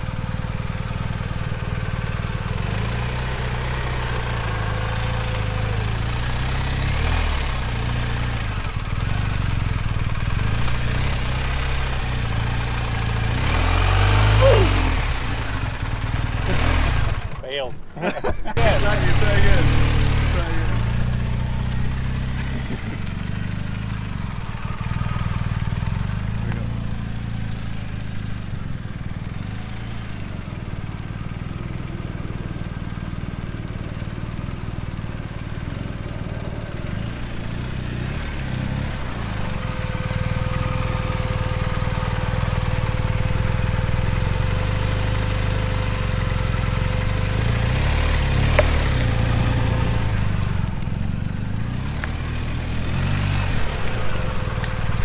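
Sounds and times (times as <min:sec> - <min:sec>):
motorcycle engine at low revs: 0:00.0 - 0:55.0.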